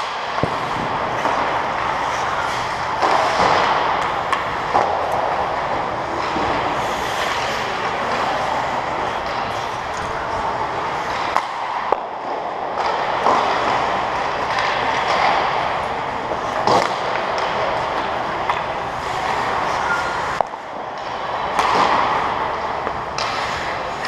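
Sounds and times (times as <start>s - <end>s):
hockey sticks and puck clacking: 0.0s - 24.0s
skates scraping on ice: 0.0s - 24.0s.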